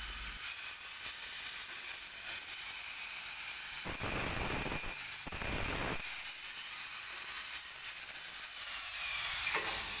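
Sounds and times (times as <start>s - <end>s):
angle grinder hiss and whine: 0.0s - 2.8s, 3.6s - 10.0s.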